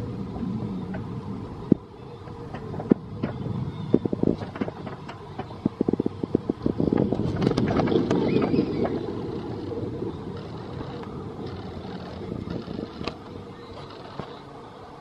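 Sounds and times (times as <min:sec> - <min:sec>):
roller coaster train rolling: 0:00.0 - 0:15.0.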